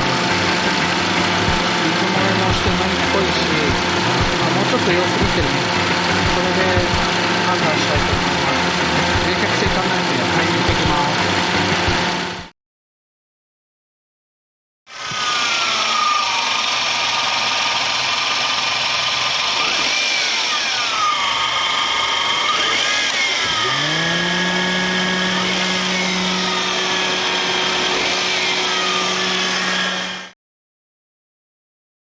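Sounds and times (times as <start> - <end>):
car engine whine: 0.0 - 12.5, 14.9 - 30.4.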